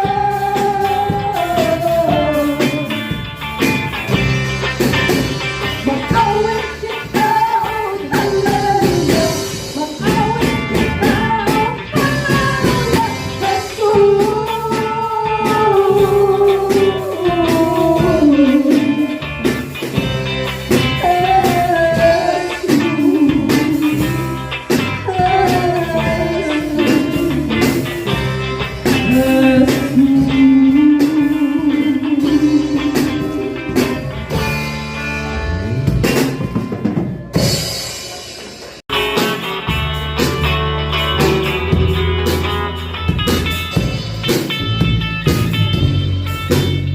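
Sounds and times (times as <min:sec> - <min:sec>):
drum kit beat: 0:00.0 - 0:46.9
live band playing slow song: 0:00.0 - 0:46.9
sung or lead guitar melody: 0:00.0 - 0:46.9.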